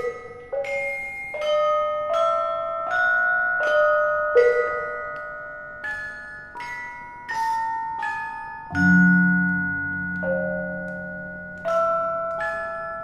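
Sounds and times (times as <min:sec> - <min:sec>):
gamelan metallophone melody: 0:00.0 - 0:13.0.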